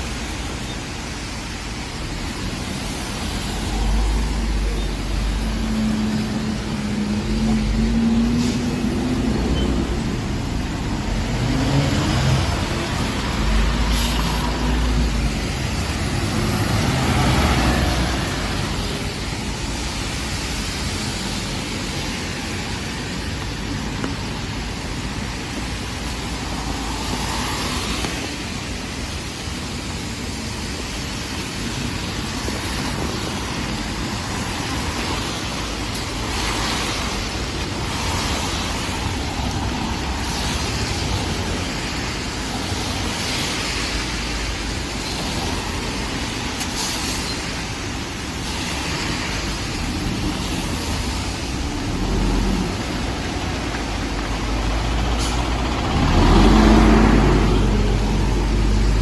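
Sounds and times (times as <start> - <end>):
bus engine running: 0.0 - 59.0
tyres hissing on wet road: 0.0 - 59.0.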